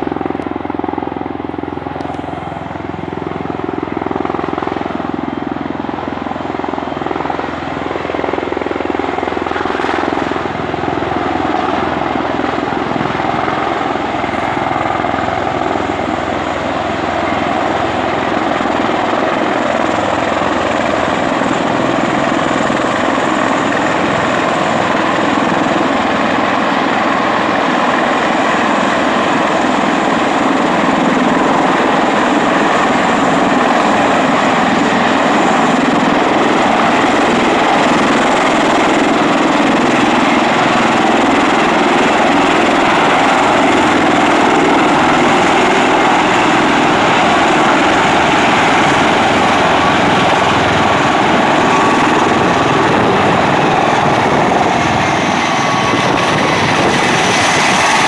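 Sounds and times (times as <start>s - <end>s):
tiltrotor aircraft roaring: 0.0s - 58.0s.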